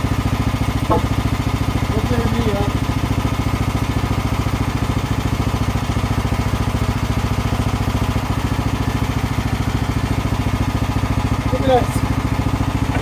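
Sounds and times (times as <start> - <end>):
sawmill gasoline engine running: 0.0 - 13.0.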